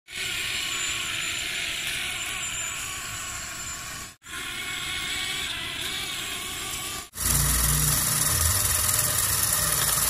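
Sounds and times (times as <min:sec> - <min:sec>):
toy motors whirring: 0:00.1 - 0:10.0.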